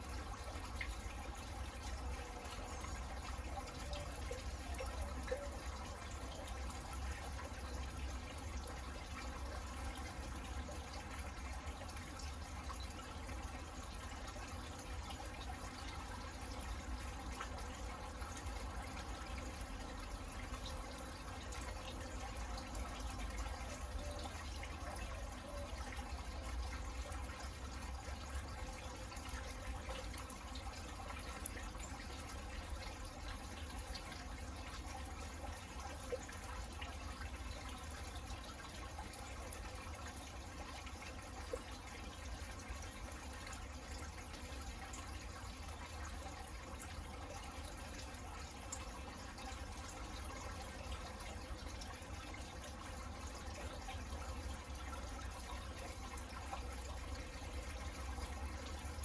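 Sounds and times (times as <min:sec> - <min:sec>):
drips on leaves and pots: 0:00.0 - 0:59.0.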